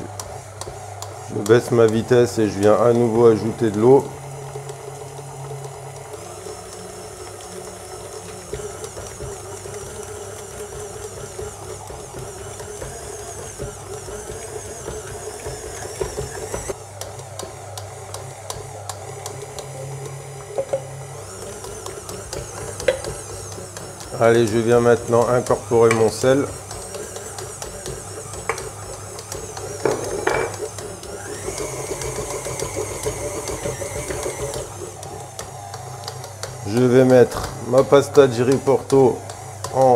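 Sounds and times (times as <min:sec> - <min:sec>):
stand mixer motor hum: 0:00.0 - 0:39.9.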